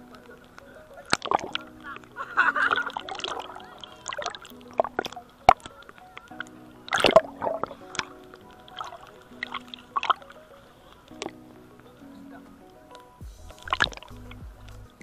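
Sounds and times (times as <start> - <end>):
sea water splashing: 0.0 - 14.4
background music with sustained notes: 0.0 - 15.0.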